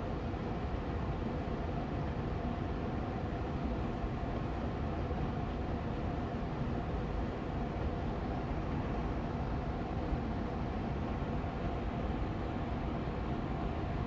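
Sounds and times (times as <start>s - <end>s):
air purifier fan humming: 0.0s - 14.0s.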